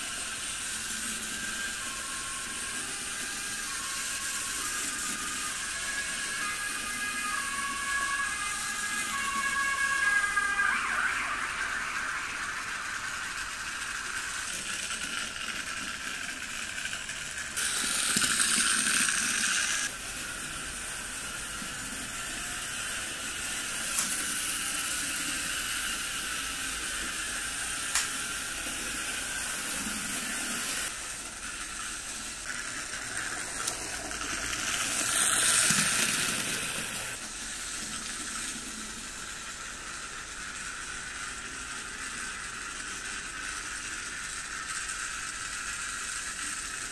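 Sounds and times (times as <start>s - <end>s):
model train motor whirring: 0.0s - 46.9s.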